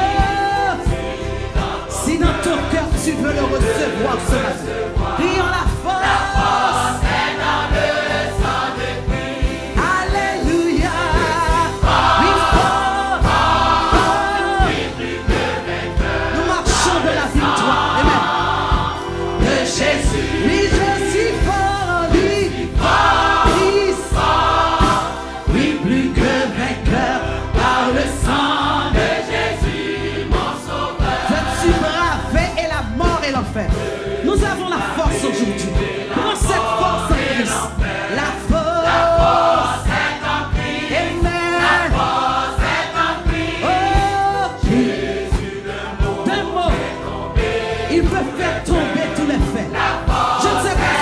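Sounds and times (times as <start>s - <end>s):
gospel choir singing: 0.0s - 51.0s
steady beat: 0.0s - 51.0s.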